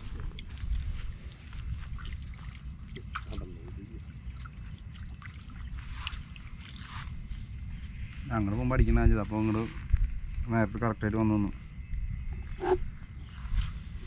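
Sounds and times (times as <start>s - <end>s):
faint ticks and chirps: 0.0s - 14.0s
wind rumble on microphone: 0.0s - 14.0s.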